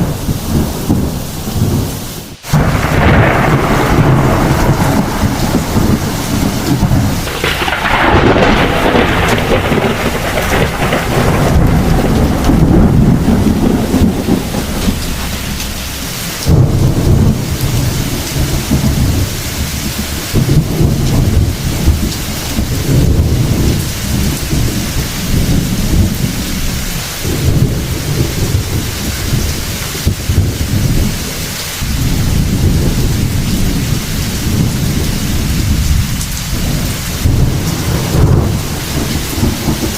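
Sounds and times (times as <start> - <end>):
steady rain: 0.0 - 39.9
thunder rumbling: 0.0 - 39.9
thunderclap: 0.0 - 39.9.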